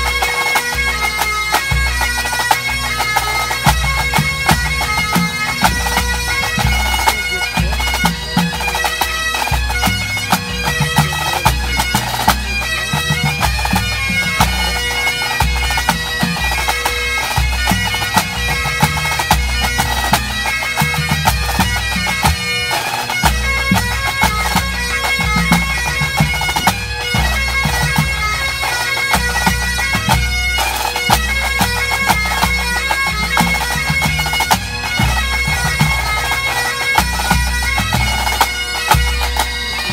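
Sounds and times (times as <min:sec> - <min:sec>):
bagpipes playing: 0:00.0 - 0:39.9.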